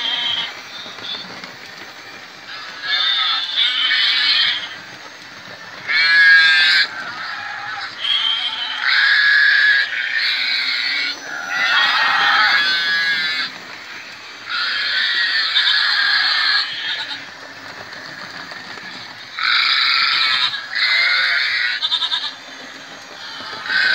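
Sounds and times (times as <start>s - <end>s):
tinny recorded farm animal calls: 0.0s - 1.4s, 2.5s - 5.0s, 5.8s - 23.9s.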